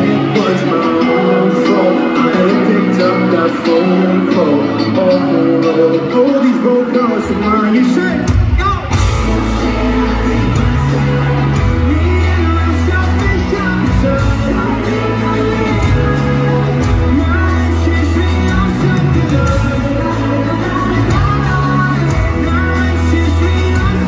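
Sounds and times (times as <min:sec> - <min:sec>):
lead vocals: 0:00.0 - 0:24.0
pop-rock band playing live: 0:00.0 - 0:24.0.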